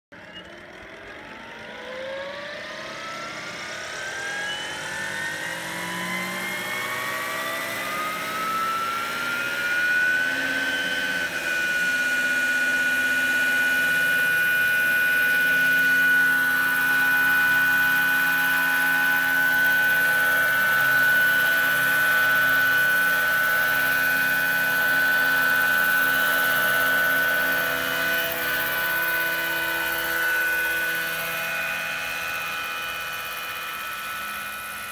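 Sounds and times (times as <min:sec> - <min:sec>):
model helicopter motor whine: 0:00.2 - 0:34.9.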